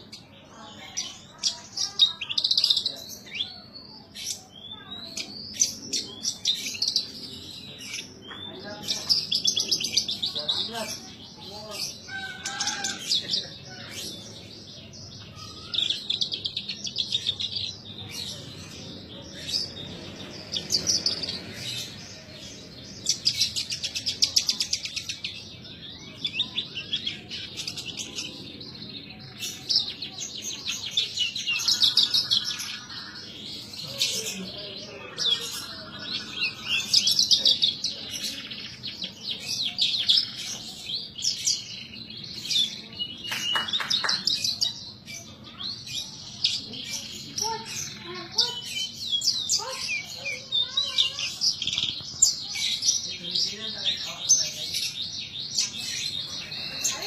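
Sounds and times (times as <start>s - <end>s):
bird trilling and chirping: 0.0s - 57.0s.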